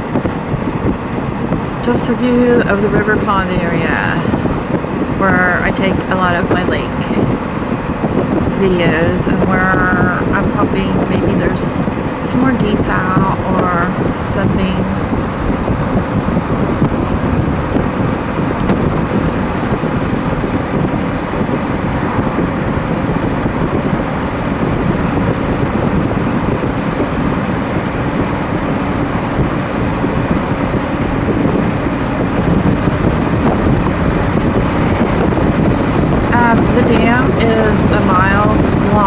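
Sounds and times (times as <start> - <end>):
low engine hum: 0.0 - 39.0
tyre and wind noise: 0.0 - 39.0.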